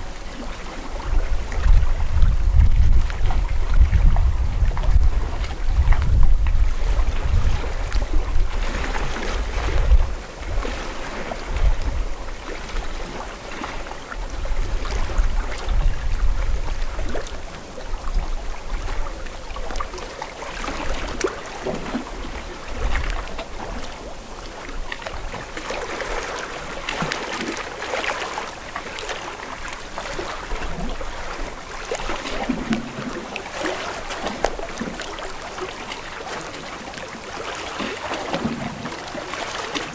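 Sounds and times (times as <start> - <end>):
lake water lapping and splashing: 0.0 - 39.9
wind buffeting microphone: 0.0 - 39.9.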